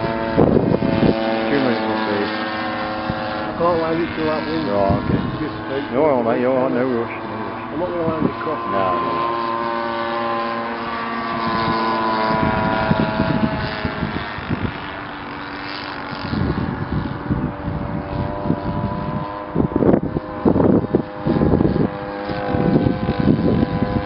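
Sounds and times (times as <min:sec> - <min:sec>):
model plane engine droning: 0:00.0 - 0:24.0
wind rumbling on microphone: 0:00.0 - 0:24.0.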